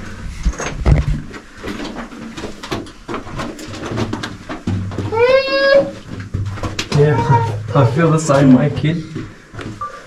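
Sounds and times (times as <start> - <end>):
footsteps crunching on rubble: 0.8 - 10.0.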